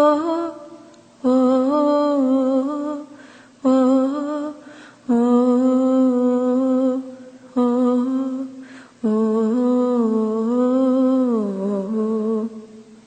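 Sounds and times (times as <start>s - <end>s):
woman singing wordless notes: 0.0s - 13.0s.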